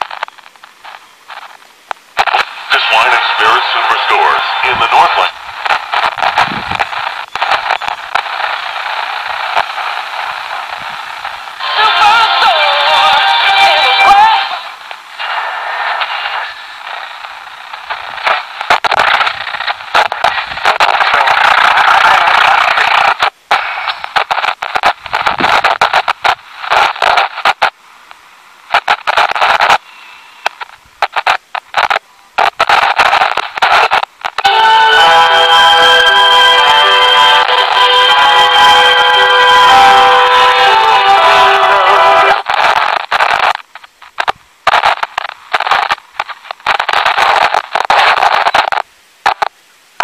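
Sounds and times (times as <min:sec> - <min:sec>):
radio station audio: 0:00.0 - 0:27.7, 0:30.4 - 0:49.5
radio static and crackles: 0:00.0 - 0:50.0.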